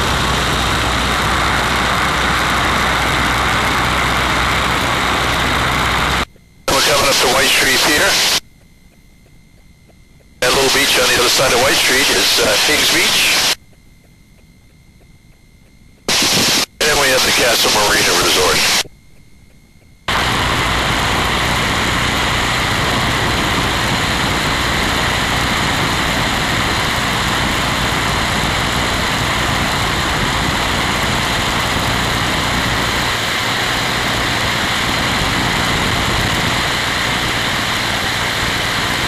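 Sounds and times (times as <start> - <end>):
biplane engine and propeller: 0.0 - 39.0.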